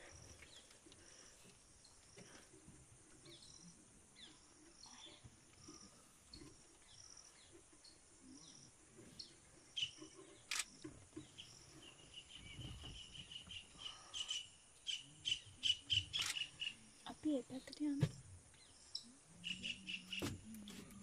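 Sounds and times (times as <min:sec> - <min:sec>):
bird chirps: 0:03.2 - 0:17.8, 0:18.5 - 0:20.8.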